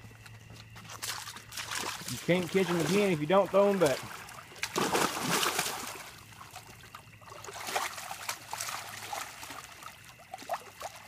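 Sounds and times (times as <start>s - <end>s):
river water splashing: 0.9s - 11.0s.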